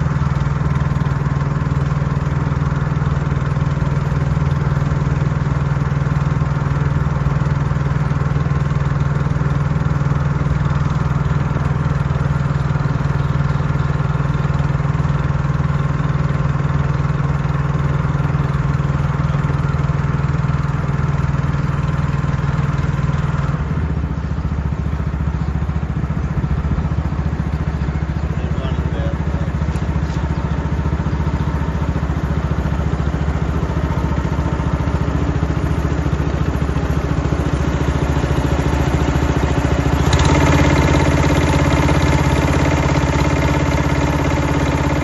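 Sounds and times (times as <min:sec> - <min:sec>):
motorboat engine running: 0:00.0 - 0:45.0.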